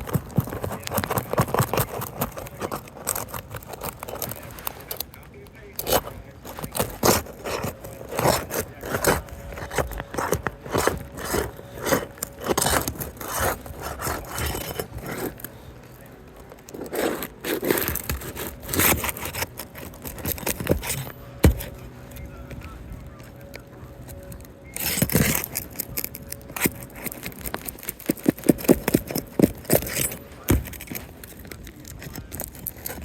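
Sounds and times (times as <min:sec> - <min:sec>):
pry tool scraping shingles: 0:00.0 - 0:33.0.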